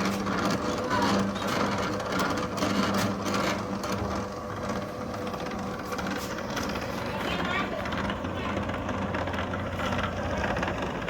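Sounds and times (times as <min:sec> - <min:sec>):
fast mechanical chatter: 0:00.0 - 0:11.0
small machine motor humming: 0:00.0 - 0:11.0.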